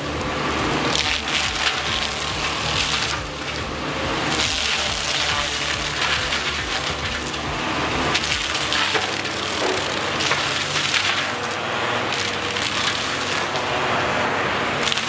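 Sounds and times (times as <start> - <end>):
mulcher shredding wood: 0.0 - 15.0.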